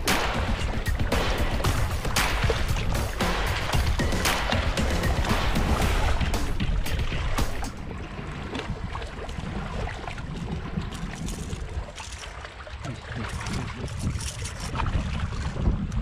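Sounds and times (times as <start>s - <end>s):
sea water washing against rocks: 0.0s - 16.0s
wind rumbling on microphone: 0.0s - 16.0s.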